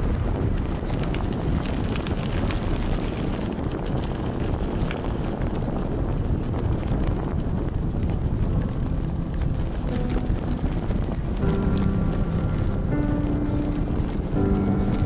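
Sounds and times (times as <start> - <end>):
faint ticks of small stones: 0.0 - 15.0
tyres rolling on gravel: 0.0 - 15.0
wind buffeting microphone: 0.0 - 15.0.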